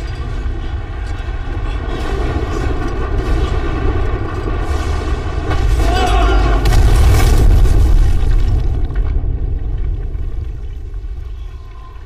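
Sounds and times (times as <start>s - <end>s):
deep continuous rumble: 0.0s - 12.0s.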